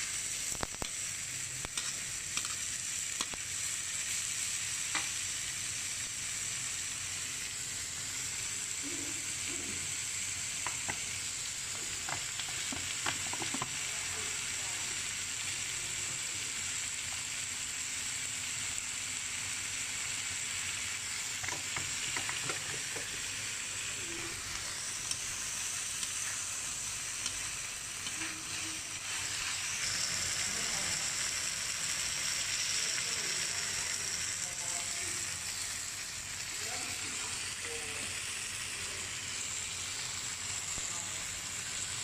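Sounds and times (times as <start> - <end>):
vegetables sizzling in wok: 0.0 - 42.0.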